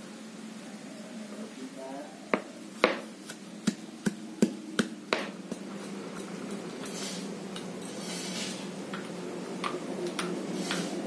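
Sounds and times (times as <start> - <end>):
low background hum: 0.0 - 11.0
soft rustling hiss: 0.0 - 11.0.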